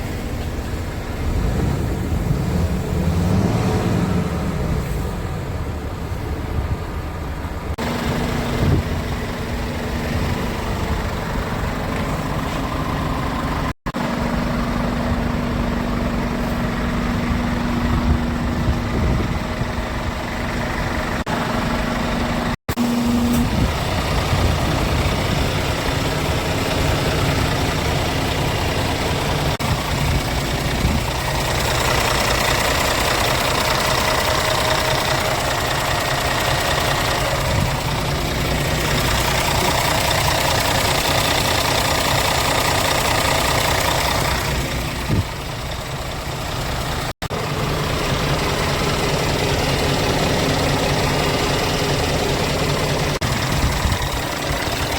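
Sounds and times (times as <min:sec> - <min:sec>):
truck diesel engine idling: 0:00.0 - 0:03.6, 0:04.2 - 0:54.9.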